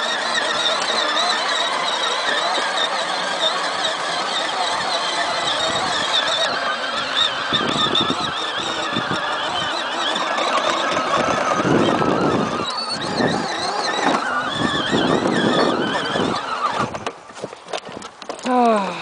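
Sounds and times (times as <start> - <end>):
electric toy motor whining: 0.0 - 18.6
plastic body rattling: 0.0 - 18.6.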